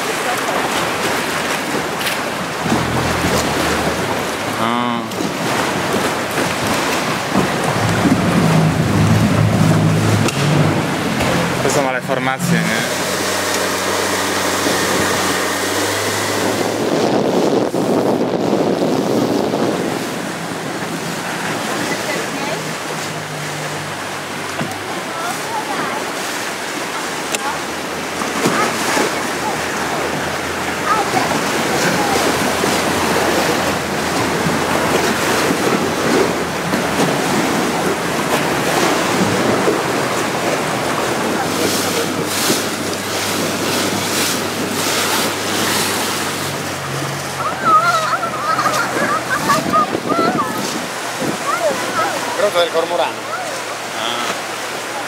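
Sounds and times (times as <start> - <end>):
wind buffeting microphone: 0.0 - 11.8, 12.6 - 53.5
motorboat engine running: 0.0 - 55.0
water rushing past hull: 0.0 - 55.0.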